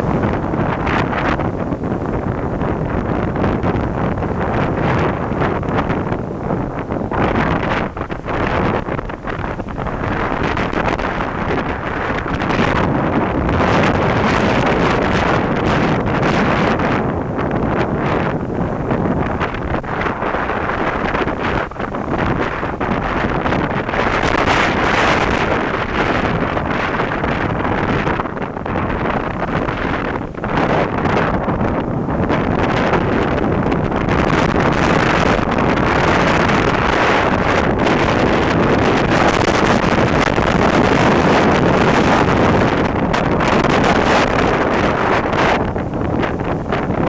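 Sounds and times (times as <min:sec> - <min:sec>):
storm wind buffeting microphone: 0:00.0 - 0:47.0.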